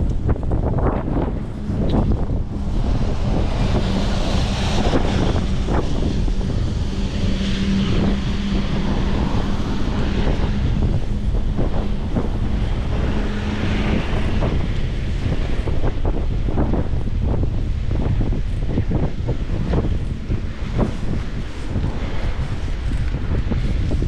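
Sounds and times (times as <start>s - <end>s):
steady low hum: 0.0s - 24.0s
wind buffeting microphone: 0.0s - 24.0s.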